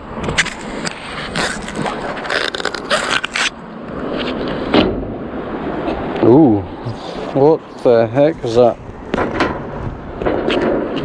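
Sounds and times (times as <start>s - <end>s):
rough scrapes and rustles: 0.2s - 5.0s, 6.8s - 11.0s.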